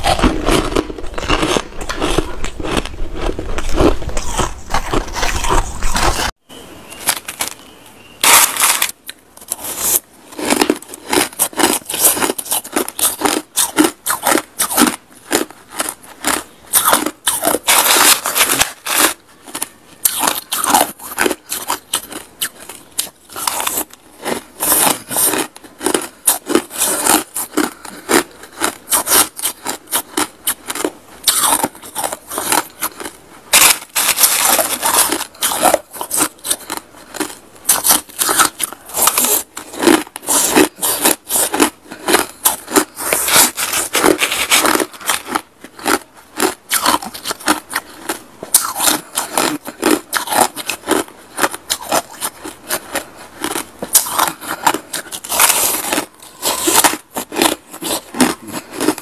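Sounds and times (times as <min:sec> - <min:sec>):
ice being crunched and chewed: 0:00.0 - 0:06.3, 0:07.0 - 0:59.0.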